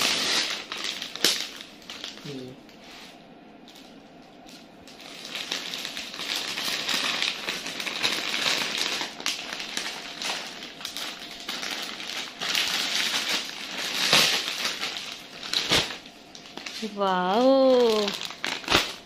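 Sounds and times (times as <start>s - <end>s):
gift wrap crinkling: 0.0s - 2.5s, 3.6s - 19.0s.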